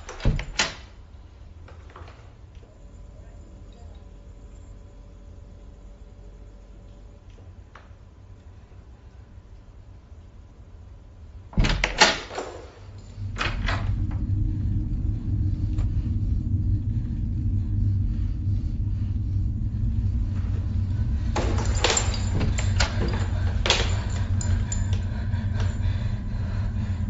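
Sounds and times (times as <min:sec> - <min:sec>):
steady low rumble: 0:02.5 - 0:11.7, 0:12.8 - 0:27.0.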